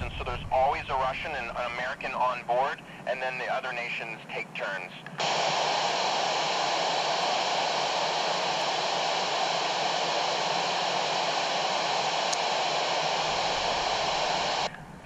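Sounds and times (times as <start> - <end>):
radio static hissing: 0.0 - 14.7.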